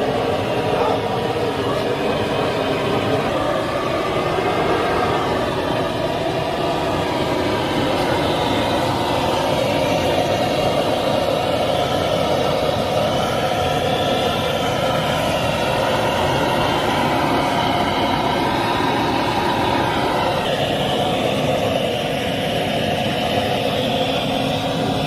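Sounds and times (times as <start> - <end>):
burner roaring: 0.0 - 25.0.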